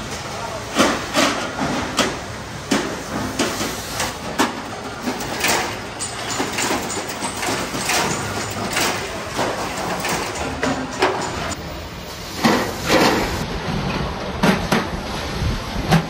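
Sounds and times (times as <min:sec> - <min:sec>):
workshop noise: 0:00.0 - 0:16.0.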